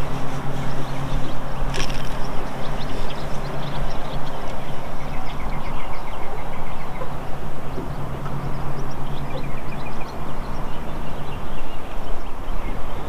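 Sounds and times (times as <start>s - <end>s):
boat motor hum: 0.0s - 13.0s.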